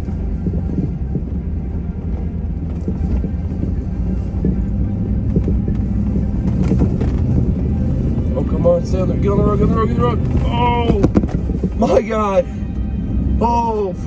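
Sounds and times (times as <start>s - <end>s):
vehicle engine rumbling under load: 0.0s - 14.0s.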